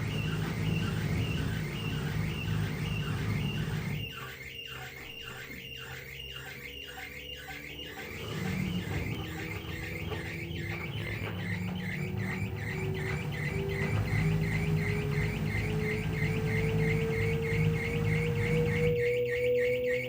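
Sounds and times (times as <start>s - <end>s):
washing machine drum squeaking: 0.0s - 20.0s
washing machine low hum: 0.0s - 20.0s.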